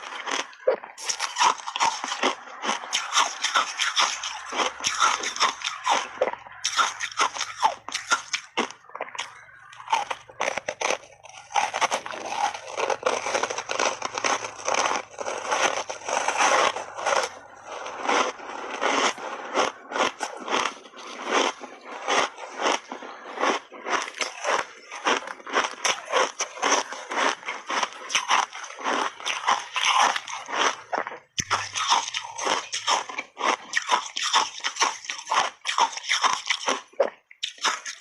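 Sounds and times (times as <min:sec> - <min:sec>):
ice crunching while chewed: 0:00.0 - 0:38.0.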